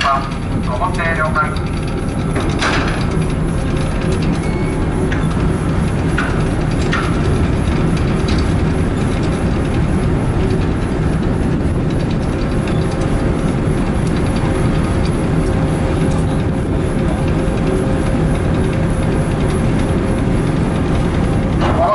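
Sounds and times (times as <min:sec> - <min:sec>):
ferry engines rumbling: 0:00.0 - 0:21.9.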